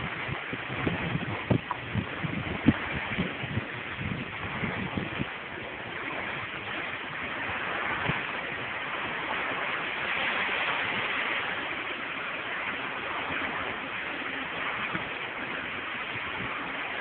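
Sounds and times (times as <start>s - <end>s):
hissing wash of water: 0.0s - 17.0s.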